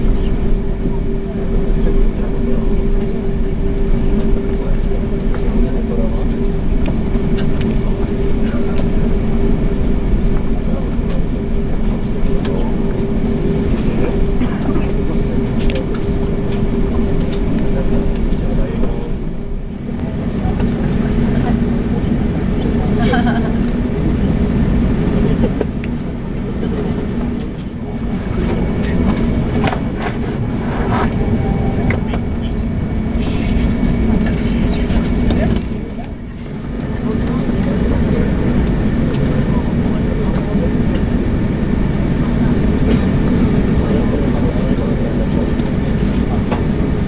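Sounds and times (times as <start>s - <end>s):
airplane cabin engine drone: 0.0s - 47.0s.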